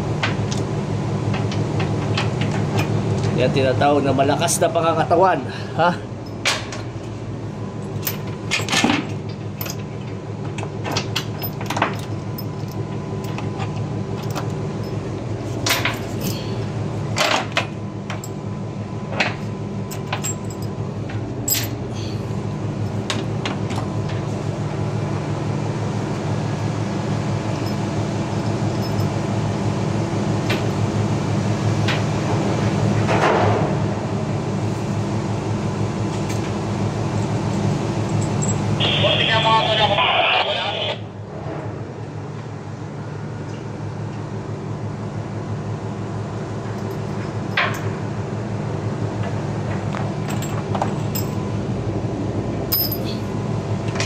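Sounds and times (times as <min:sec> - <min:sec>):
steady machinery hum: 0:00.0 - 0:54.0.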